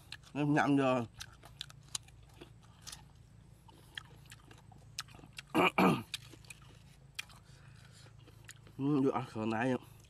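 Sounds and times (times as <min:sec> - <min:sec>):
person chewing fruit: 0:00.0 - 0:10.0.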